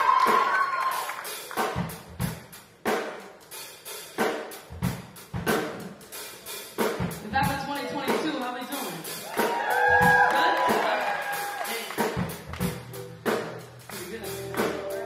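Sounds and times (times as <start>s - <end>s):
rock drum beat: 0.0s - 15.0s.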